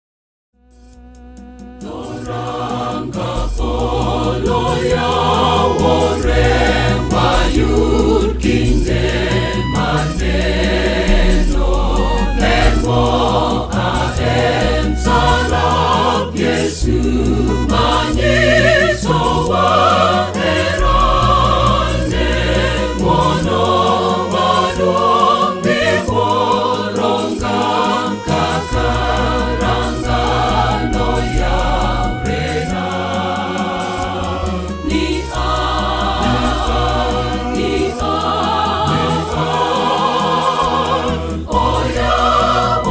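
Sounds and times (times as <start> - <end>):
band with heavy bass: 0.7 - 42.9
choir singing gospel song: 1.3 - 42.9.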